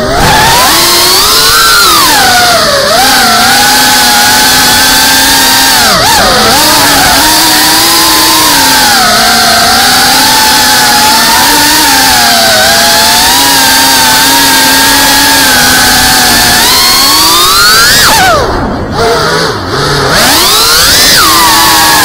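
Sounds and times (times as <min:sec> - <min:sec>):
drone propellers buzzing with high whine: 0:00.0 - 0:22.0.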